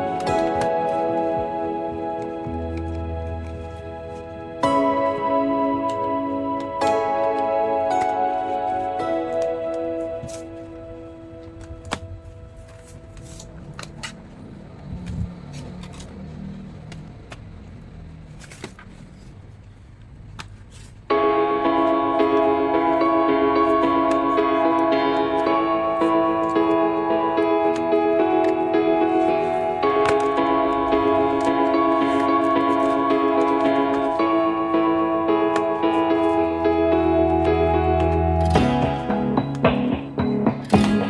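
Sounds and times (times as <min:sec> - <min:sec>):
calm new-age music chords: 0:00.0 - 0:14.8, 0:21.1 - 0:41.0.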